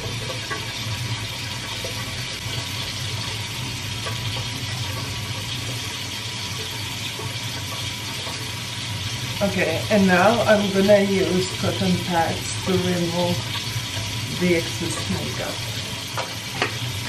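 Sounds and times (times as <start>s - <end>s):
water running from sink tap: 0.0s - 17.0s.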